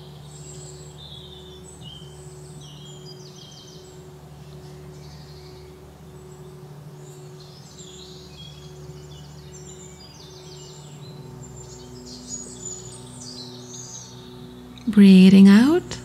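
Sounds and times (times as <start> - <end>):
low steady hum: 0.0 - 16.0
small birds chirping and trilling: 0.0 - 16.0.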